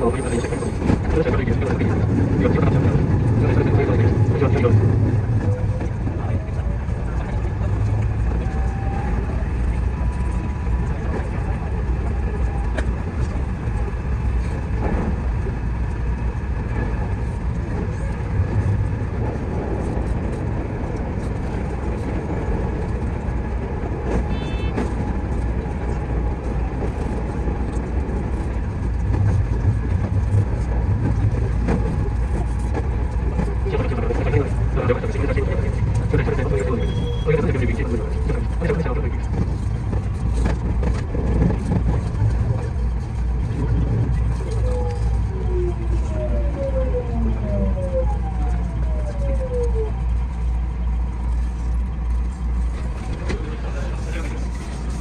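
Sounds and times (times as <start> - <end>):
electric train running rumble: 0.0 - 55.0.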